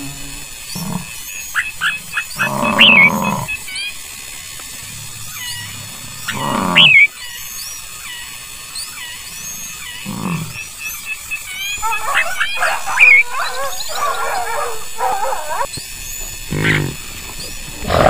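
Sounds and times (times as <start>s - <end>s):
animal calls: 0.0s - 4.1s, 4.8s - 15.7s, 16.4s - 17.1s, 17.8s - 18.0s
birds chirping: 0.0s - 18.0s.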